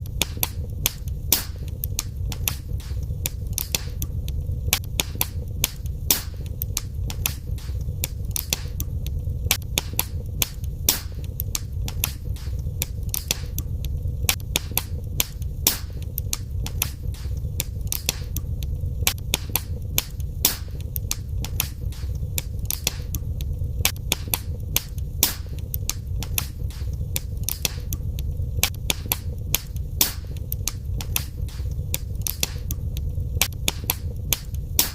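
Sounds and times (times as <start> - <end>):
low rumble of burning fire: 0.0 - 34.9
wood fire crackling: 0.0 - 34.9.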